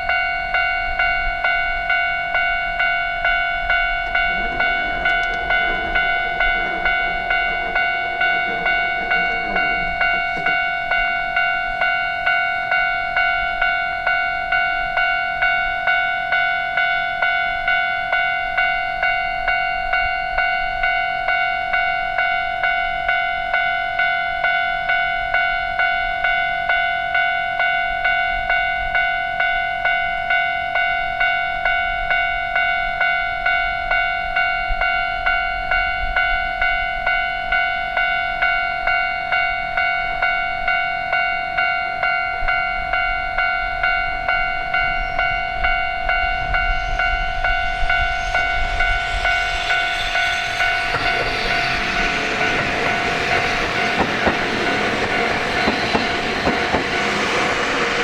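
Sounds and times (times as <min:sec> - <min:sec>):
railroad crossing bell ringing: 0:00.0 - 0:58.0
train rumble and rail noise: 0:00.0 - 0:58.0.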